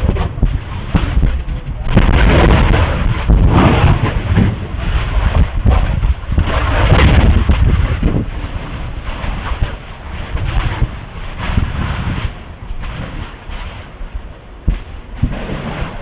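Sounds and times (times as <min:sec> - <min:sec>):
roar of lava blasts: 0:00.0 - 0:16.0
wind rumble on microphone: 0:00.0 - 0:16.0.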